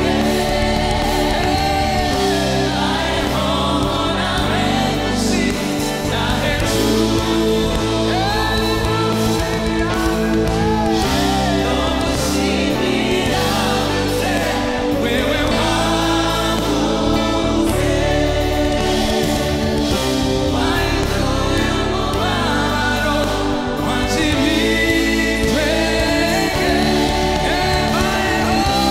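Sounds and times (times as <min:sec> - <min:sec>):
band playing: 0:00.0 - 0:28.9
group singing gospel: 0:00.0 - 0:28.9.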